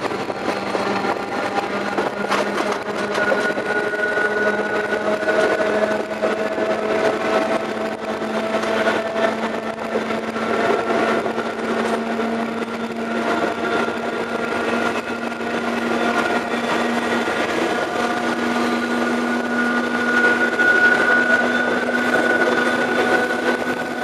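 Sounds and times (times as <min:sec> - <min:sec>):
diesel train engine drone: 0:00.0 - 0:24.0
rushing wind: 0:00.0 - 0:24.0
wheel-on-rail noise: 0:00.0 - 0:24.0.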